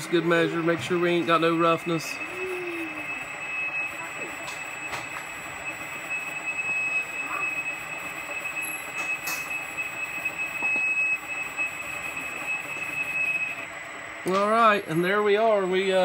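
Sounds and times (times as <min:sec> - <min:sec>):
milling machine running: 0:00.0 - 0:16.0.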